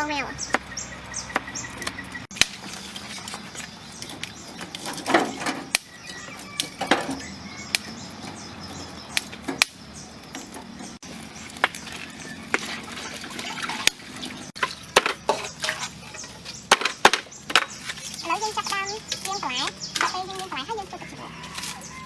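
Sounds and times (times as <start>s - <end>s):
birds chirping faintly: 0.0s - 22.0s
charcoal crackling and popping: 1.4s - 22.0s.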